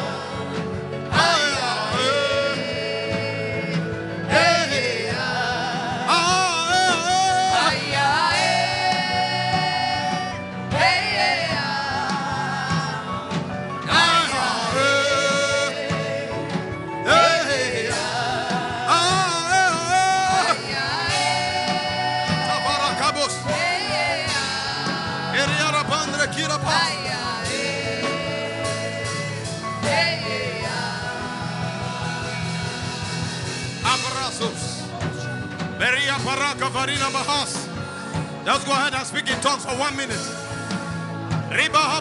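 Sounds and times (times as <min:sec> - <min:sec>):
instrumental accompaniment: 0:00.0 - 0:42.0.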